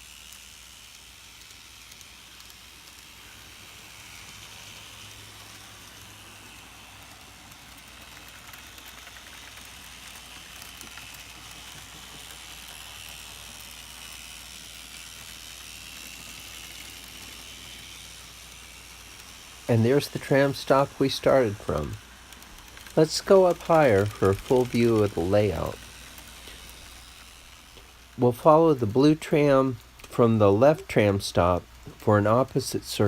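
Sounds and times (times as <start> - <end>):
model tram whine and hiss: 0.0 - 33.0.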